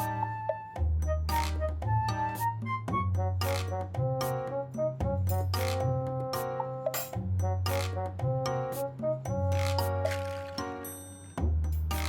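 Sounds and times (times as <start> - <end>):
bass line: 0.0 - 6.6, 7.2 - 10.6.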